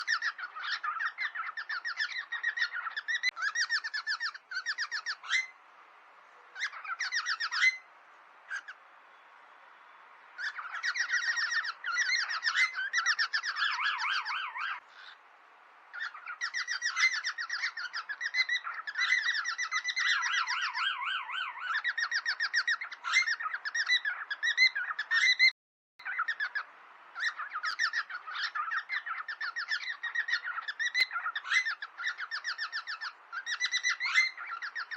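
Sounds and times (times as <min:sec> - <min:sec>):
cockatiels chirping: 0:00.0 - 0:05.6, 0:06.5 - 0:07.9, 0:08.5 - 0:08.8, 0:10.4 - 0:15.2, 0:15.9 - 0:34.9.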